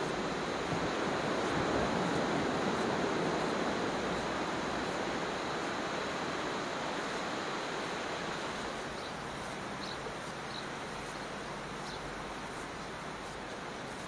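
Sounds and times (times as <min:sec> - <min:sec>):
gentle surf on sandy beach: 0:00.0 - 0:14.0.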